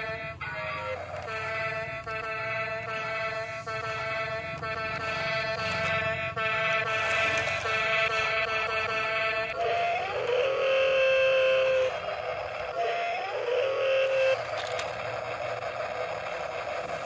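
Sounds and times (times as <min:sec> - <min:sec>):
rough steady whir: 0:00.0 - 0:17.0
toy motors whining: 0:00.0 - 0:17.0.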